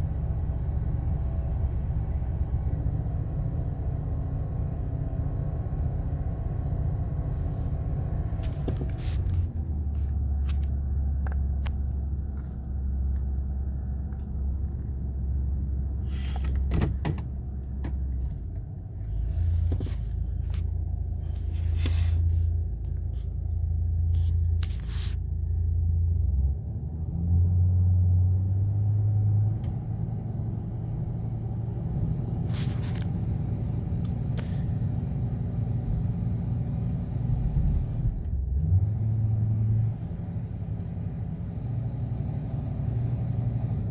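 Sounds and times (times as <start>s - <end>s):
engine rumbling: 0.0s - 43.9s.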